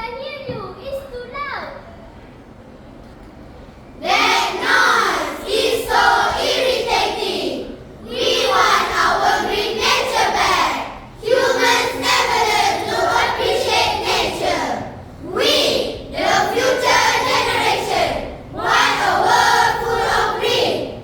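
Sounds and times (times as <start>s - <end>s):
children speaking in unison: 4.0s - 21.0s.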